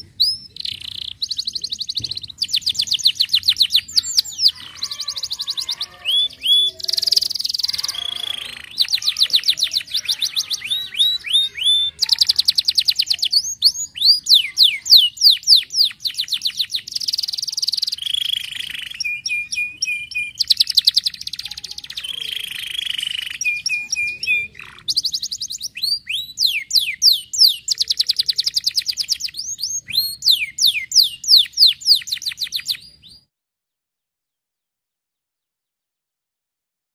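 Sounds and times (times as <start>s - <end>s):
canary singing trills: 0.0s - 33.3s.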